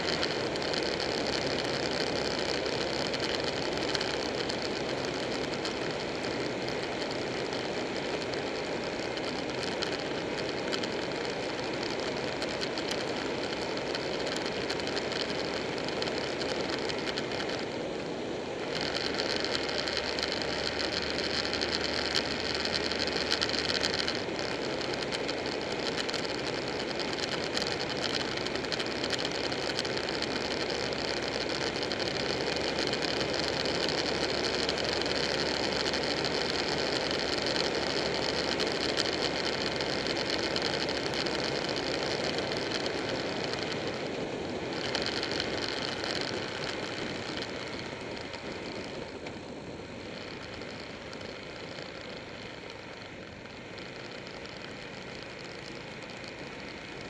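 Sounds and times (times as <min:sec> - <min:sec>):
motorcycle engine running: 0:00.0 - 0:57.0
wind and road rush: 0:00.0 - 0:57.0.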